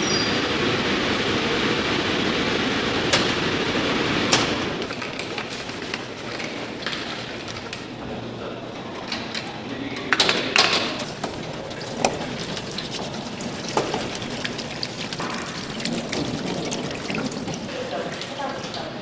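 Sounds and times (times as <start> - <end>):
kitchen background hum: 0.0 - 19.0.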